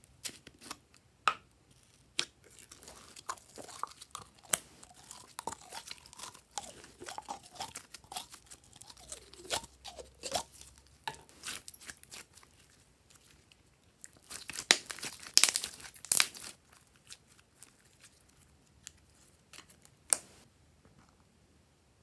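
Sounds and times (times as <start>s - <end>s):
slime squelching and crackling: 1.7s - 20.4s.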